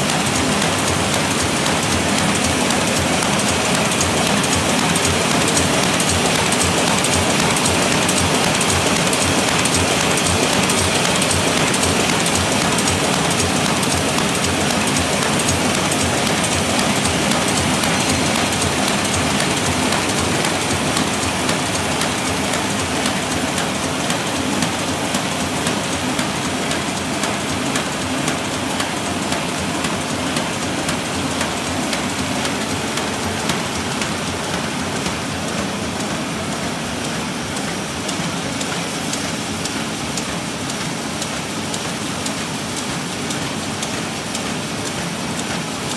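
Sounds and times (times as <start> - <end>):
machine clattering and ticking: 0.0 - 45.9.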